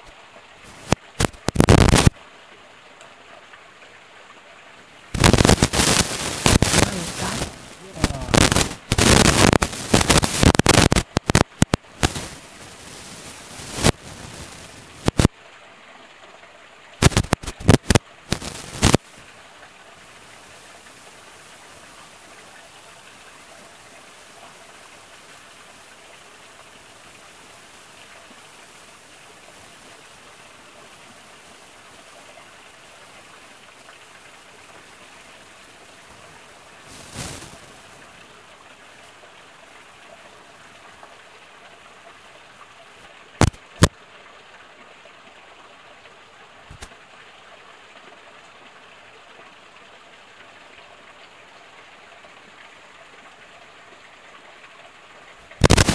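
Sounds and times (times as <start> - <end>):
stream trickling: 0.0 - 55.9.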